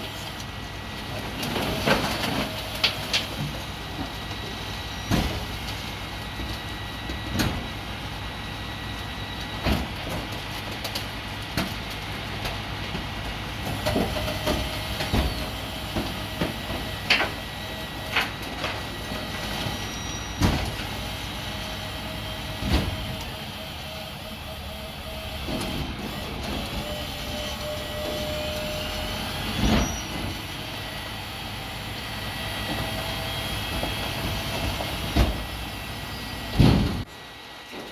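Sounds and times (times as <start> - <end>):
garbage truck running: 0.0 - 37.9.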